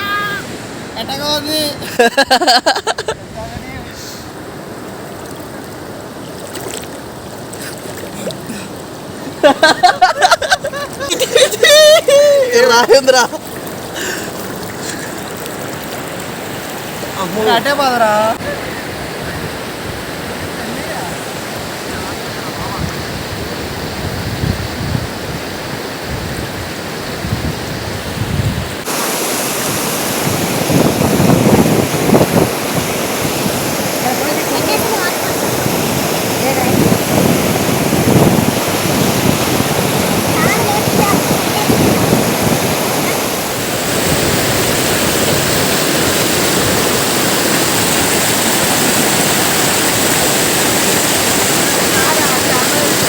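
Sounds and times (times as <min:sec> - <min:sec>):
waterfall rushing: 0:00.0 - 0:06.3, 0:06.9 - 0:53.0.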